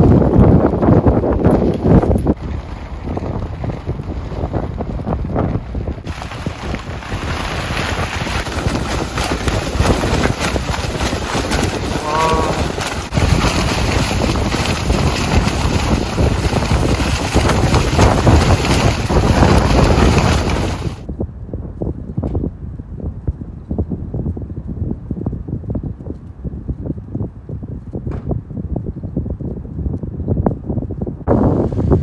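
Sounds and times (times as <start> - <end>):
gale-force wind buffeting microphone: 0.0 - 32.0.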